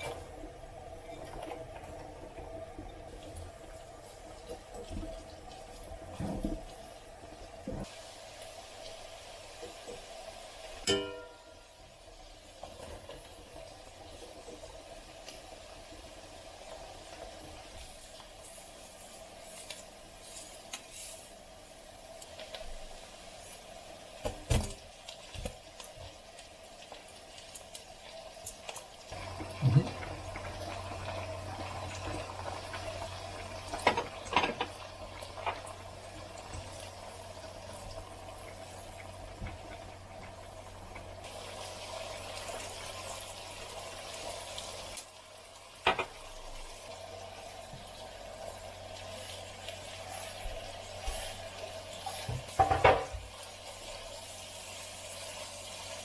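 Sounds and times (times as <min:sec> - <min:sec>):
low hum with watery hiss: 0:00.0 - 0:56.0.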